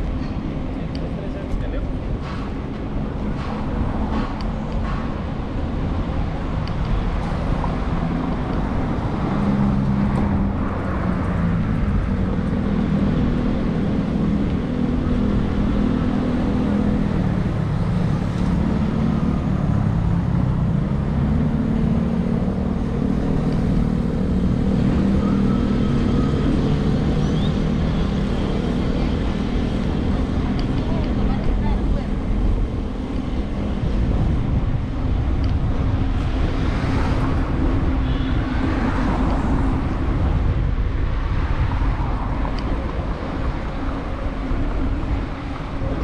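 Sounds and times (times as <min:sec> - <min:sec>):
motor vehicle engine running: 0:00.0 - 0:40.6
road noise: 0:00.0 - 0:46.0.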